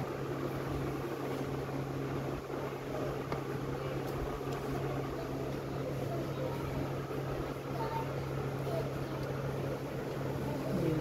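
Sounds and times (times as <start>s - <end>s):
low mechanical hum with hiss: 0.0s - 11.0s.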